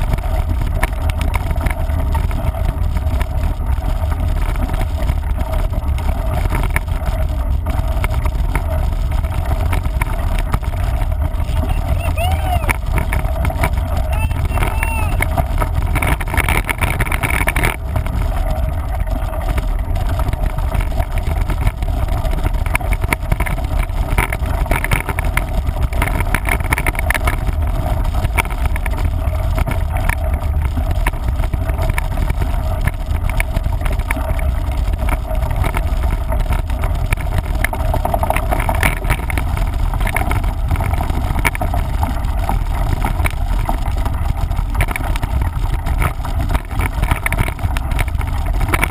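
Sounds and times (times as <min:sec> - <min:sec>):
bike clicks and rattles: 0:00.0 - 0:48.9
wind buffeting microphone: 0:00.0 - 0:48.9.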